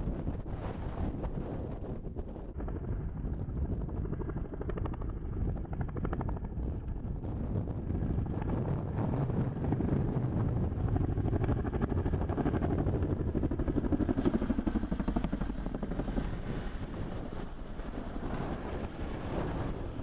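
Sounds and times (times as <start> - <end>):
helicopter rotors beating: 0.0 - 20.0.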